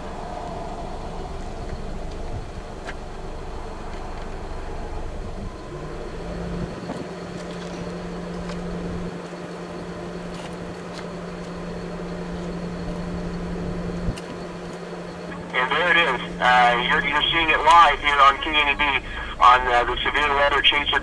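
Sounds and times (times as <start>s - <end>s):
droning tone: 0.0s - 21.0s
vehicle engine idling: 0.0s - 21.0s.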